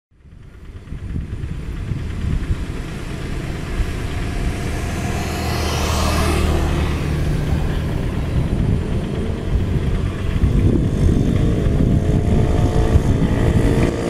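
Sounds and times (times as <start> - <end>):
engine idling with low hum: 0.1 - 14.0.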